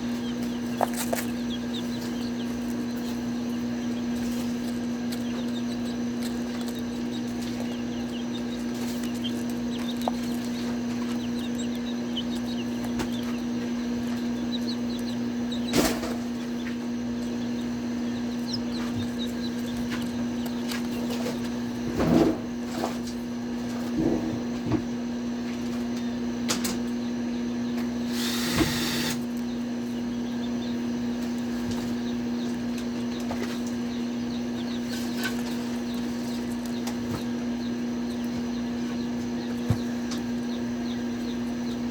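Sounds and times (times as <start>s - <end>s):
appliance humming: 0.0s - 41.9s
chicks peeping: 0.0s - 41.9s.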